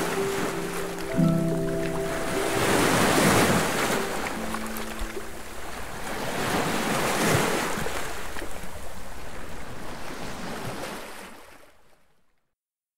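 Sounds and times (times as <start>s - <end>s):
waves washing onto shore: 0.0s - 11.7s.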